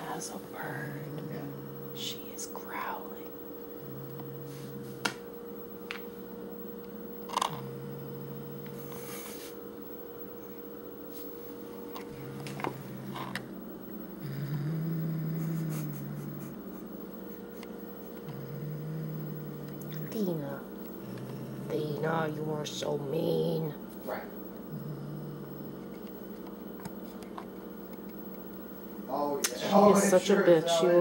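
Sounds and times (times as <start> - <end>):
cat growling: 0.0 - 9.7, 11.8 - 27.8
electrical hum: 0.0 - 31.0.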